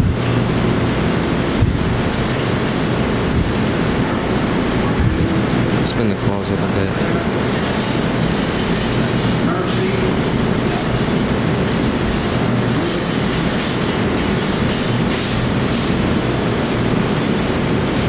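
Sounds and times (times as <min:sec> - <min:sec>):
arcade game machines clatter: 0:00.1 - 0:18.0.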